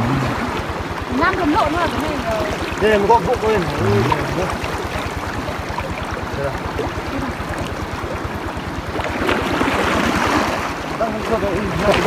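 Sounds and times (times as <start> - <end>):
rapid low pulsing: 0.0 - 10.5
water splashing while wading: 0.0 - 12.0.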